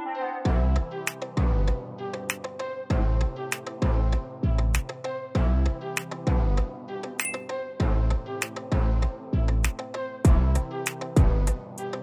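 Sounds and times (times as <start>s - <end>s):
instrumental music with kick drum: 0.5s - 12.0s.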